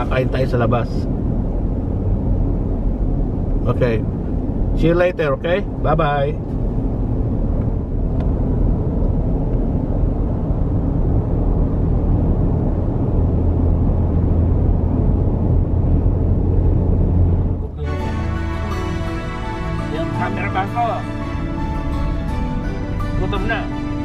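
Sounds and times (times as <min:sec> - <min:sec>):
car cabin road and engine noise: 0:00.0 - 0:24.0.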